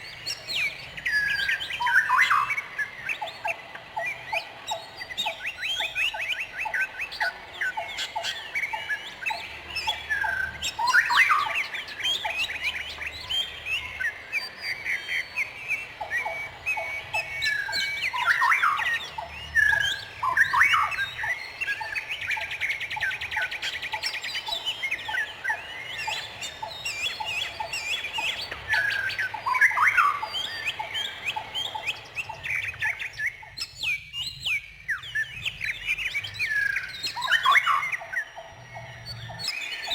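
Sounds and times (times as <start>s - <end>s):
fast bird trill: 0.0s - 39.9s
songbirds chirping: 0.0s - 39.9s.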